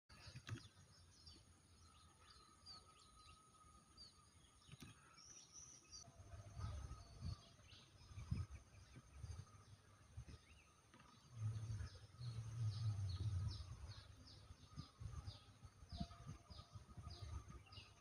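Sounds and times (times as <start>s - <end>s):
faint high bird chirps: 0.1s - 18.0s
steady thin background tone: 0.1s - 18.0s.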